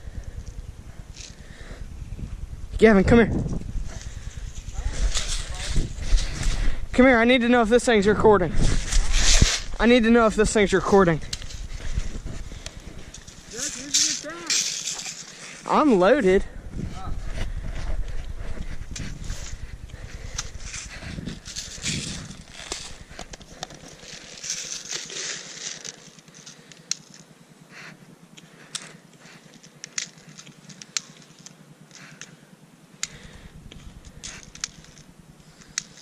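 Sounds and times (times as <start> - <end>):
grass and dry leaves rustling: 0.0 - 36.0.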